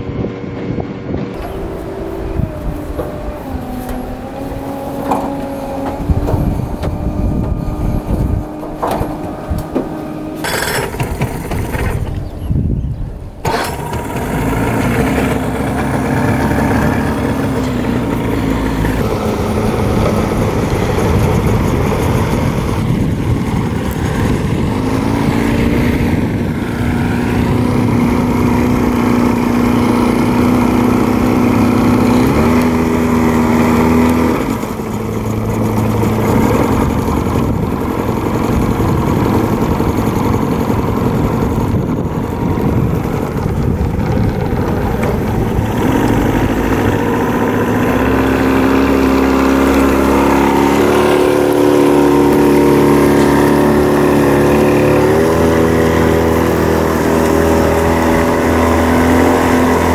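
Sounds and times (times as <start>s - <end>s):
outboard motor running: 0.0s - 59.9s
rough rushing noise: 0.0s - 59.9s.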